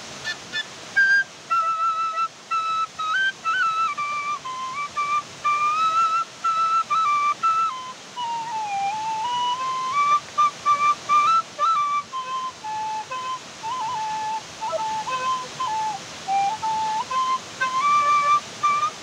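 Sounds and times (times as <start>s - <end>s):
steady hiss: 0.0s - 19.0s
slow flute melody: 0.3s - 19.0s.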